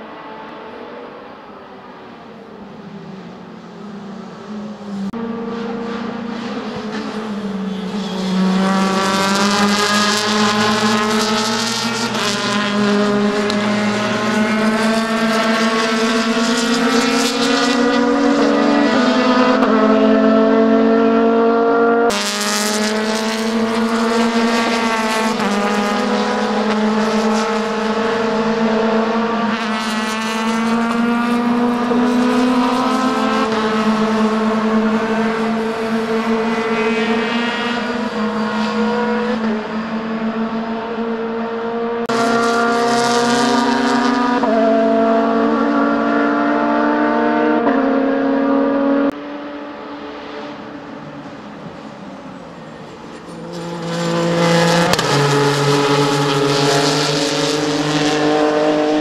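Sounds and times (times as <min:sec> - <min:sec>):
race car engines at high revs: 0:00.0 - 0:59.0.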